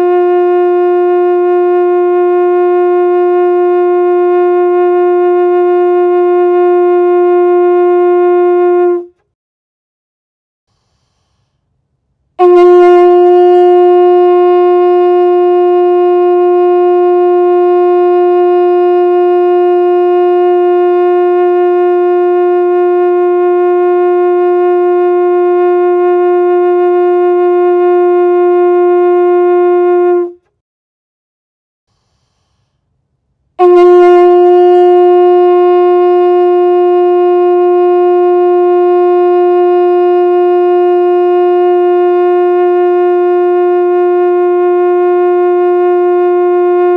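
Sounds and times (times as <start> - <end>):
conch shell horn blasts: 0.0 - 9.3, 12.3 - 30.6, 33.5 - 46.9.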